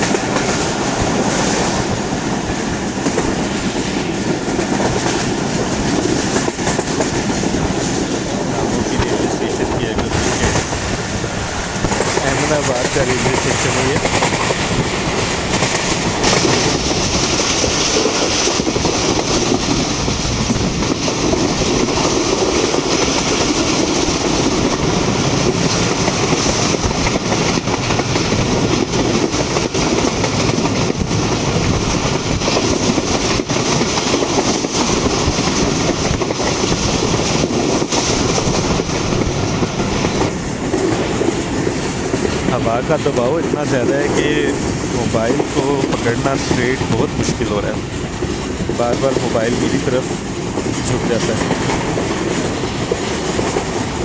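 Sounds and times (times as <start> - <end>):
wheel-on-rail noise: 0.0 - 54.0
wind buffeting microphone: 0.0 - 54.0
wind rushing: 0.0 - 54.0.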